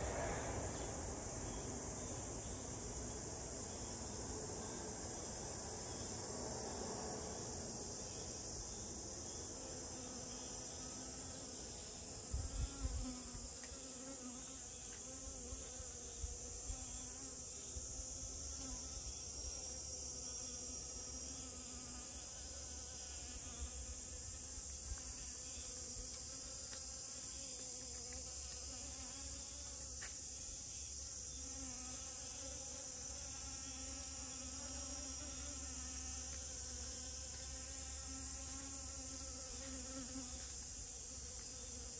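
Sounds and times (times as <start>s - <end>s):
honeybees buzzing: 6.8s - 41.9s.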